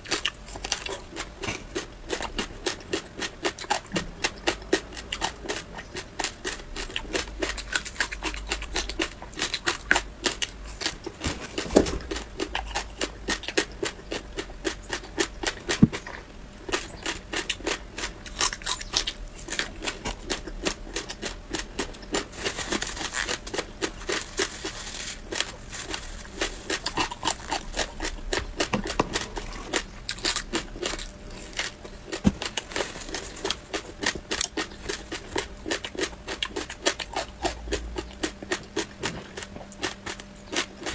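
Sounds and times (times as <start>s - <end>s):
crunching and chewing crisp: 0.0s - 40.9s.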